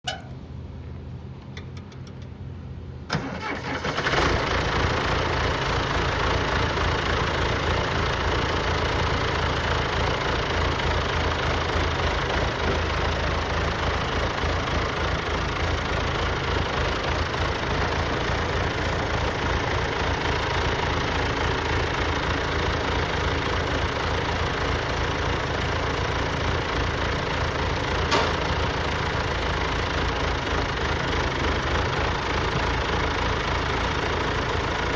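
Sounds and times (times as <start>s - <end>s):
tractor engine starting and idling: 0.0s - 34.9s.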